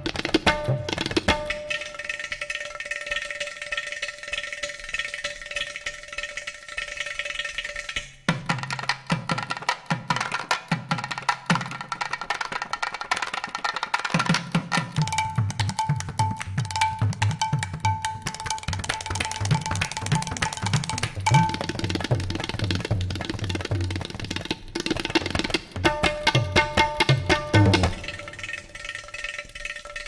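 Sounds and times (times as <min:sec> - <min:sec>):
regular drum beats: 0:00.0 - 0:02.4, 0:07.9 - 0:30.0
background music with percussion: 0:00.0 - 0:05.8, 0:07.9 - 0:30.0.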